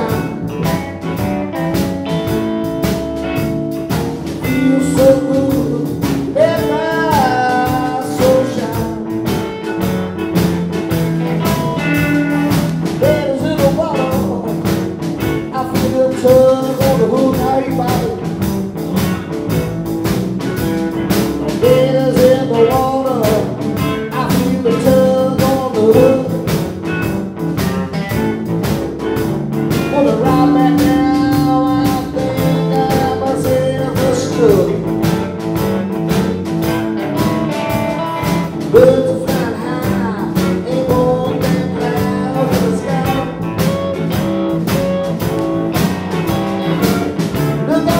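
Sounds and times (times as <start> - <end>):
drum kit steady beat: 0.0 - 47.9
electric bass: 0.0 - 47.9
electric guitar lead with bent notes: 0.0 - 47.9.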